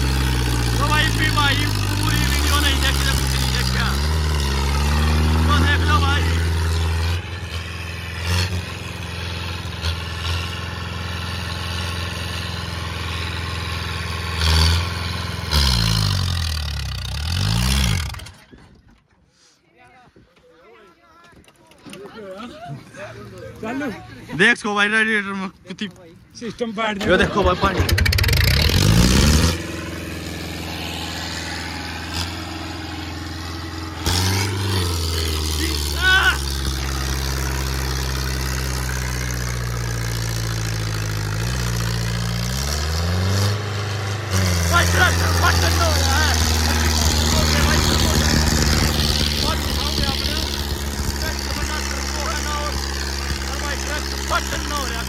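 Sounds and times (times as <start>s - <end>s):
tractor diesel engine labouring: 0.0s - 19.5s, 22.7s - 55.0s.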